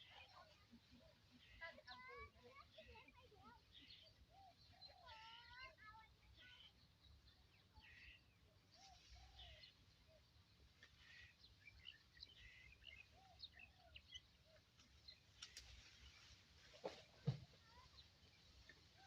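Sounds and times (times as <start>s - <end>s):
birds chirping: 0.0s - 19.0s
low arching bird calls: 1.1s - 19.0s.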